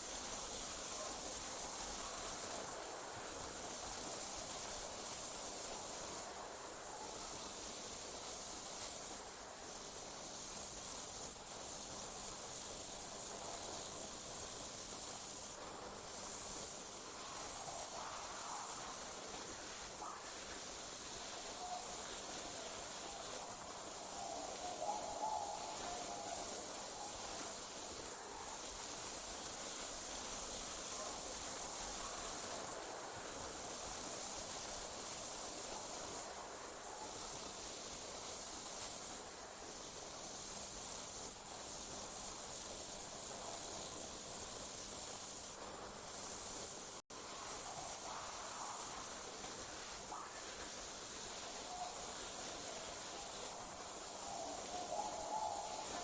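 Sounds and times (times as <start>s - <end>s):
crickets trilling: 7.0s - 56.0s.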